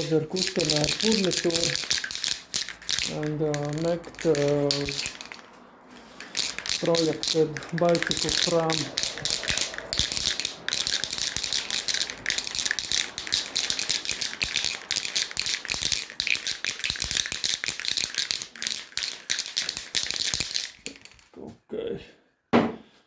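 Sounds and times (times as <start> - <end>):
dense hissy rattling: 0.0 - 21.3.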